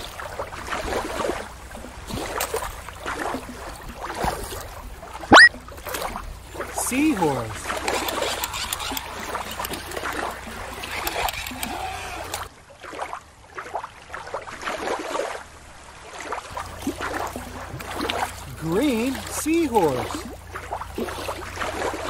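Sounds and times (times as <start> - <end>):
water lapping and splashing: 0.0 - 22.0.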